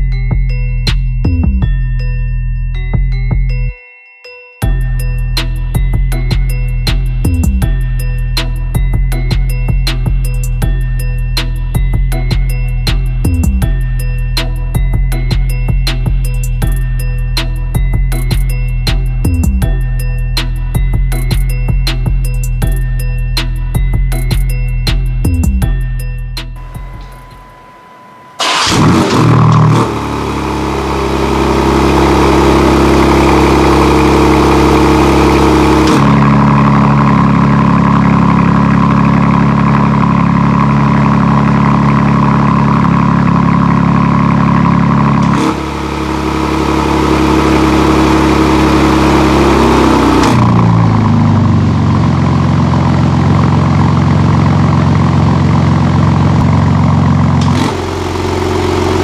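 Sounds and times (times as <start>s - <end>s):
car engine starting and idling: 4.8s - 59.0s.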